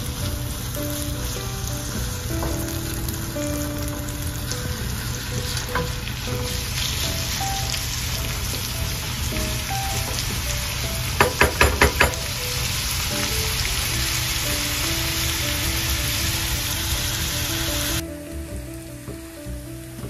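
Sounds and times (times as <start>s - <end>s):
background music: 0.0s - 20.0s
vegetables sizzling in oil: 0.0s - 20.0s.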